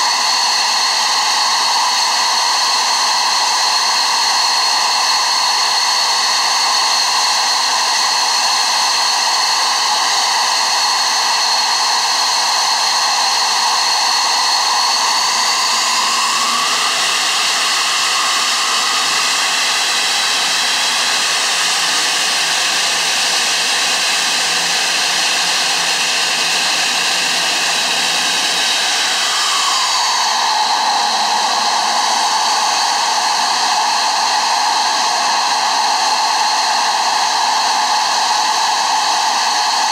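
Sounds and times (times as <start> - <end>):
jet engine rush with high whine: 0.0 - 39.9.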